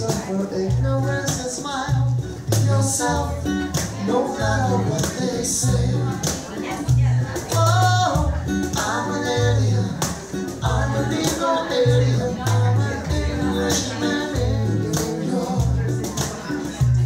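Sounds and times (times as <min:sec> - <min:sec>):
men singing: 0:00.0 - 0:17.0
strummed acoustic guitar: 0:00.0 - 0:17.0.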